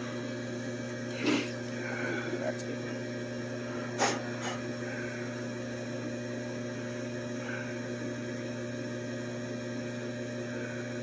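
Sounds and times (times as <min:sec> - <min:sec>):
machine hum with low tones: 0:00.0 - 0:11.0.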